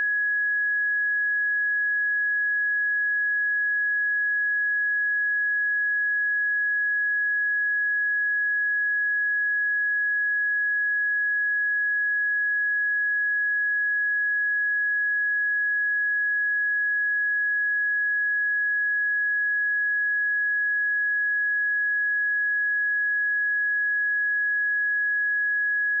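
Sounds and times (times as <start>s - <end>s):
sine-wave test tone: 0.0s - 26.0s.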